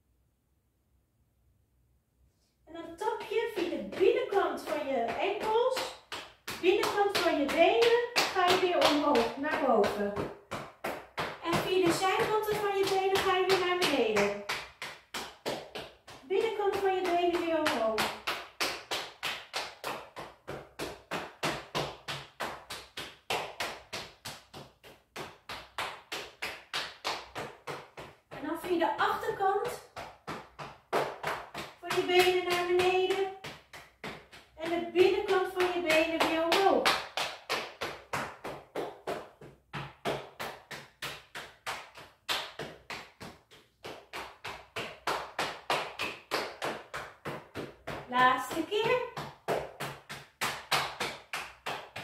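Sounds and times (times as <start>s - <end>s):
hands slapping legs: 3.1s - 52.0s.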